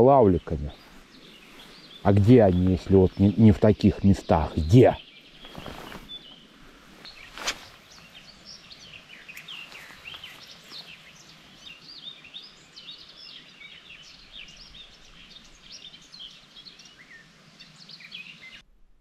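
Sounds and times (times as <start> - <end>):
small birds singing: 0.0 - 18.7
faint steady hiss: 0.0 - 19.0.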